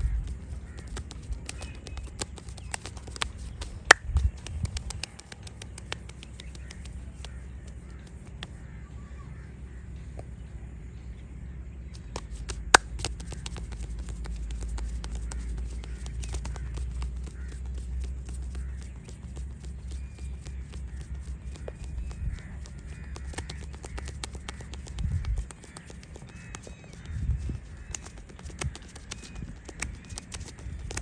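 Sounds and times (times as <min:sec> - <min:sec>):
hands tapping on skin: 0:00.3 - 0:08.6, 0:12.0 - 0:31.0.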